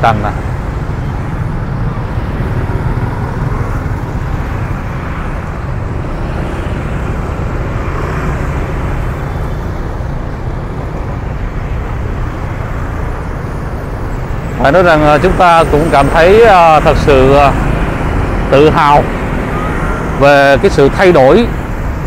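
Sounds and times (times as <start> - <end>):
city road traffic rumble: 0.0 - 22.0.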